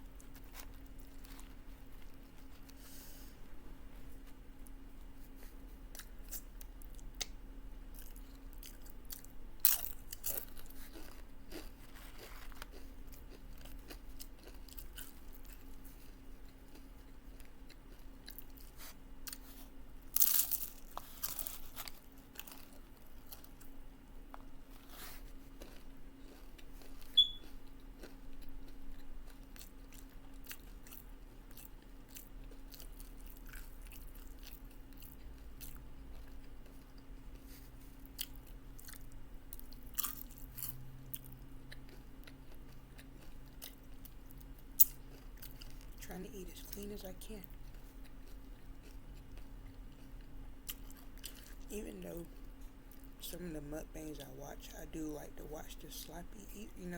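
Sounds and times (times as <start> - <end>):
chewing crunchy chips: 0.0 - 2.9, 4.2 - 56.9.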